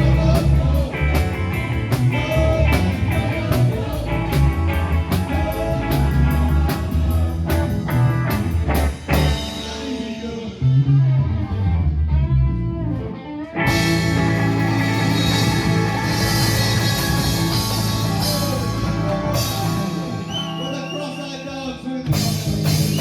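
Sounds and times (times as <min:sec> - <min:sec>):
live rock band playing: 0:00.0 - 0:11.4, 0:12.9 - 0:23.0
wavering electric guitar notes: 0:00.0 - 0:23.0.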